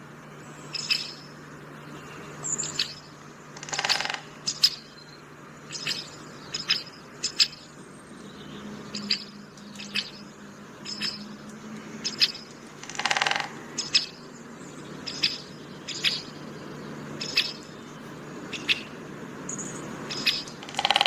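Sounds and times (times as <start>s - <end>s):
birds chirping: 0.0s - 21.0s
buzzy bird call: 0.4s - 21.0s.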